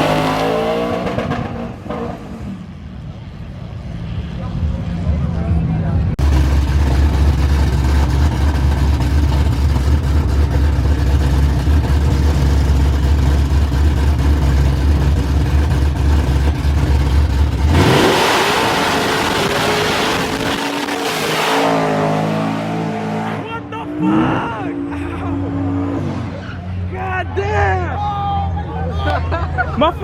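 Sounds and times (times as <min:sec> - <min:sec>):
harsh rushing noise: 0:00.0 - 0:27.1
truck engine rumbling and revving: 0:00.0 - 0:30.0.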